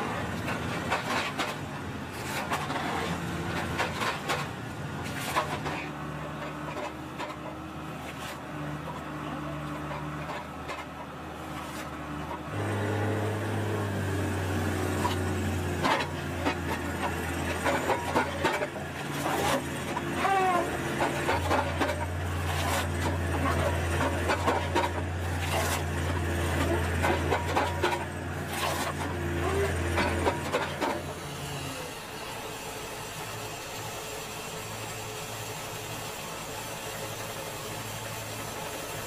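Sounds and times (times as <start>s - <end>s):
tractor and hydraulic crane droning: 0.0s - 39.0s.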